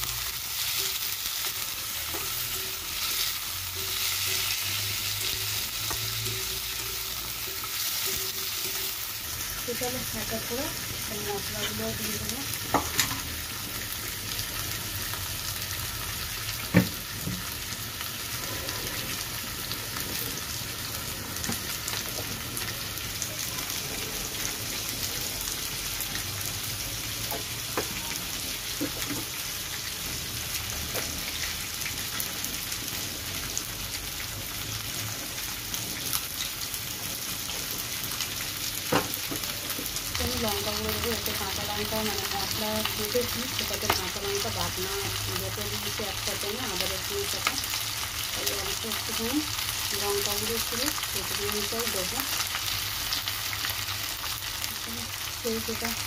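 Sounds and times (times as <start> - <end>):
food sizzling in hot oil: 0.0 - 56.0.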